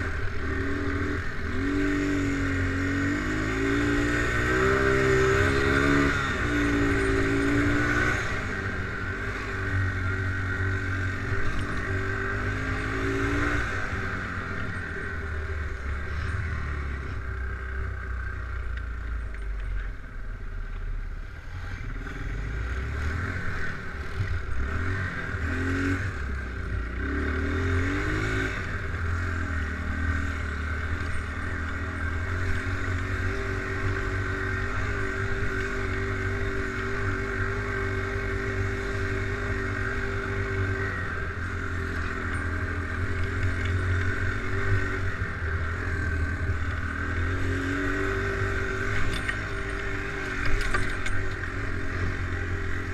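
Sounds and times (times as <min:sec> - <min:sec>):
atv engine revving: 0:00.0 - 0:19.6, 0:21.4 - 0:52.9.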